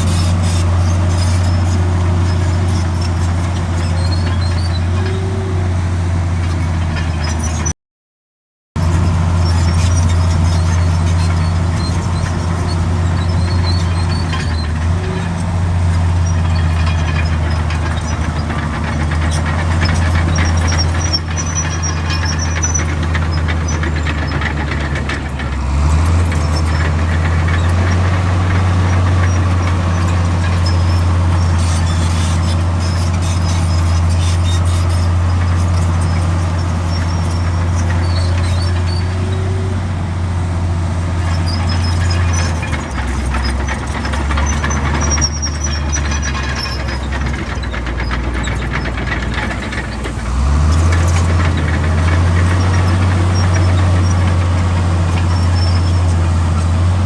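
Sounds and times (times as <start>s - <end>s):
earthmoving machinery engine drone: 0.0s - 7.7s, 8.8s - 57.0s.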